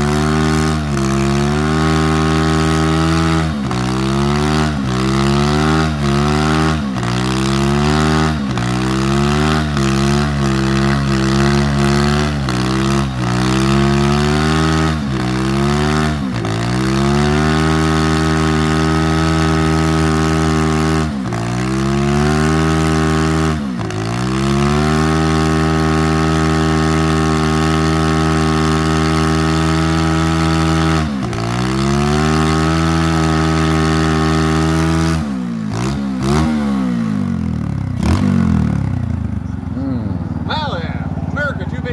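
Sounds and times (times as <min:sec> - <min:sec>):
engine revving hard: 0:00.0 - 0:41.9.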